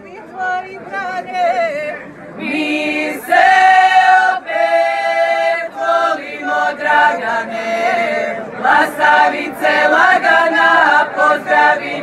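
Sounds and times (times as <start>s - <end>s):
women singing in chorus: 0.4s - 12.0s.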